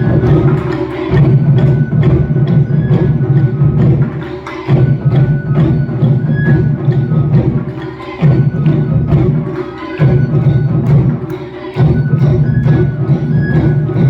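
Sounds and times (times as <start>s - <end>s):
deep drumming: 0.0s - 14.0s.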